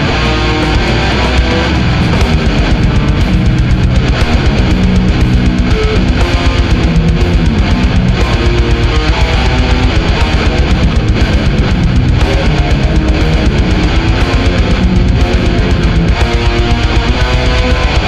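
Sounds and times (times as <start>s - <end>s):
distorted electric guitar chords: 0.0s - 18.0s
fast drum beat: 0.0s - 18.0s.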